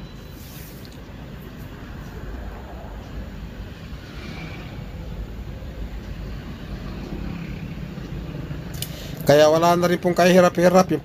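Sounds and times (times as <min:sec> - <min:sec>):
low background rumble and hiss: 0:00.0 - 0:11.0.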